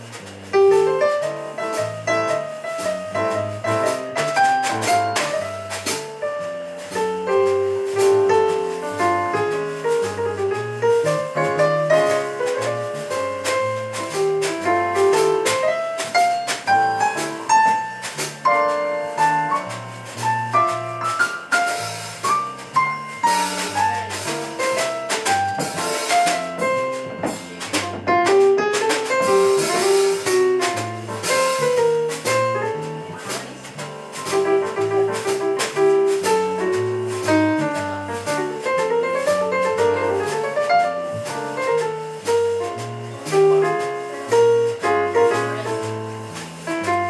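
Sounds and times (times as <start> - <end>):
drums and cymbals: 0.0 - 47.0
electric bass: 0.0 - 47.0.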